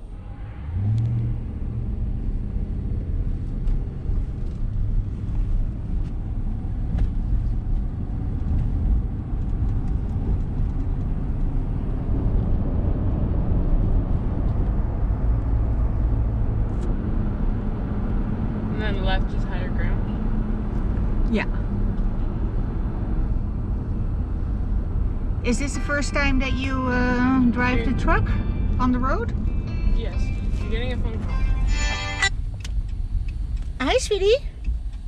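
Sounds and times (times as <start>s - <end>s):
road rumble: 0.0s - 35.0s
truck engine hum: 0.0s - 35.0s.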